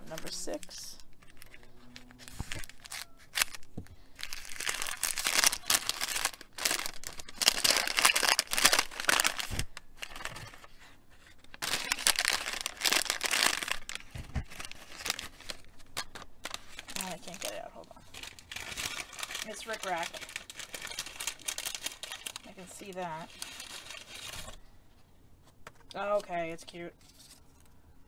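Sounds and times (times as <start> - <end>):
paper crinkling and rustling: 0.0 - 24.6, 25.6 - 27.7.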